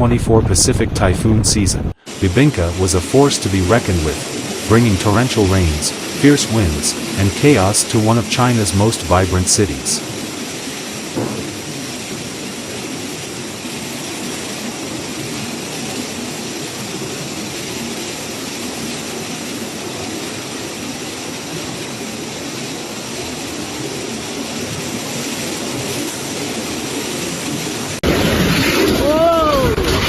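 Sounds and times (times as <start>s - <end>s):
strong wind: 0.0s - 30.0s
heavy rain: 0.3s - 30.0s.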